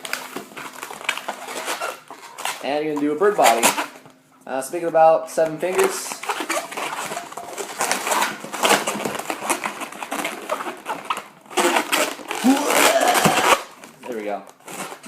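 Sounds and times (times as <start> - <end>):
balloons squeaking: 0.0 - 4.0, 5.4 - 15.0.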